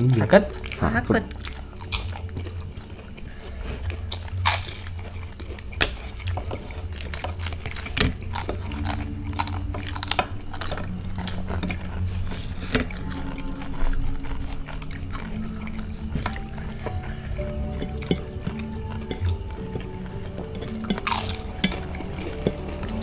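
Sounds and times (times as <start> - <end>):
low steady hum: 0.0 - 23.0
people chewing: 0.0 - 23.0.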